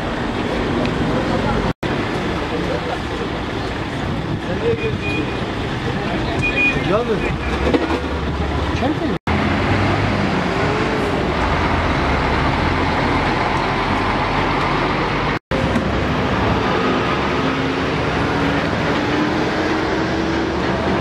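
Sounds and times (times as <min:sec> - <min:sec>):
heavy vehicle engines running: 0:00.0 - 0:21.0
roadside traffic: 0:00.0 - 0:21.0.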